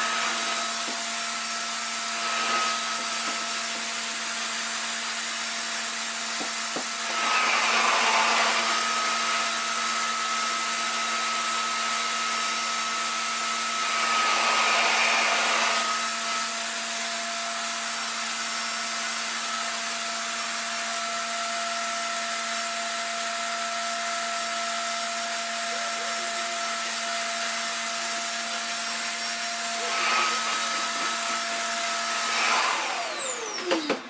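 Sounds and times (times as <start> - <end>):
hair dryer motor humming: 0.0 - 34.0.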